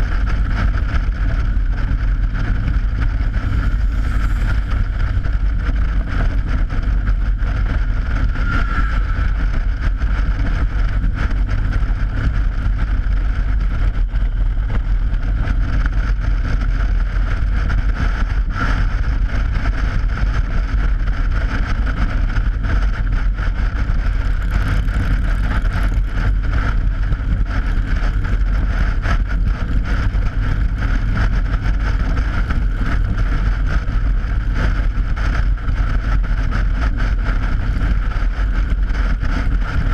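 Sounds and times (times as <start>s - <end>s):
motorcycle engine rumble: 0.0s - 39.9s
wind buffeting microphone: 0.0s - 39.9s.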